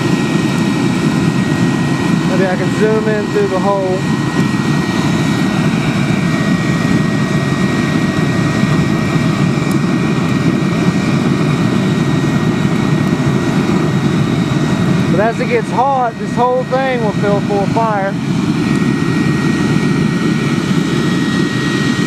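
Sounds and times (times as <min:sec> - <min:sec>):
forge burner roaring: 0:00.0 - 0:22.0.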